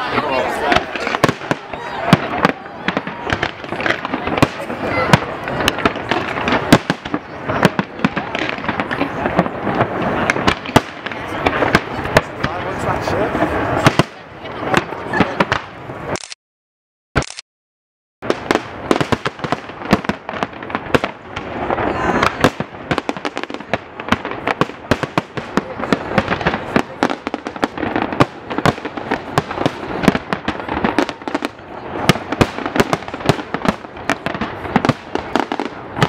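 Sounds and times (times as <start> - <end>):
fireworks crackling: 0.0 - 16.2, 18.2 - 36.0
fireworks bursting: 0.0 - 16.3, 18.2 - 36.0.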